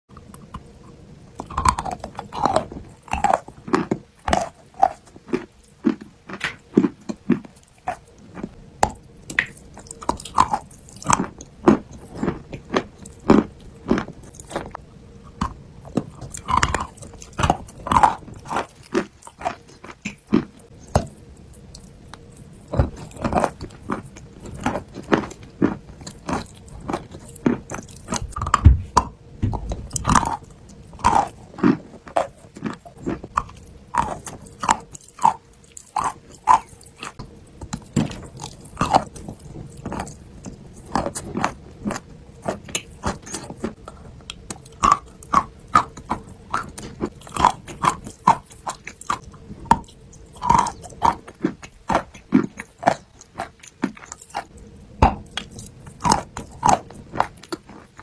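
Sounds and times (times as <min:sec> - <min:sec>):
chewing chalk crunches: 0:00.2 - 0:58.0.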